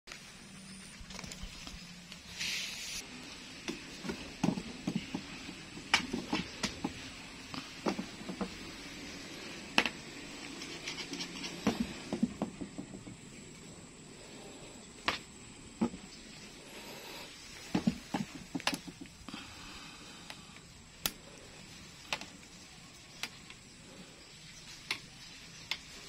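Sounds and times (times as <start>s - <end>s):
cats tapping and scuffing on concrete: 2.9s - 14.3s, 15.0s - 26.0s.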